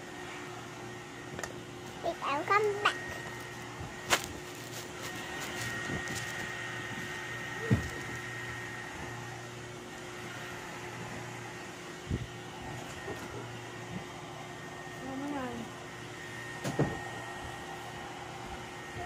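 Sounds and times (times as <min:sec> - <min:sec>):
small electric motor whirring: 0:00.0 - 0:19.0.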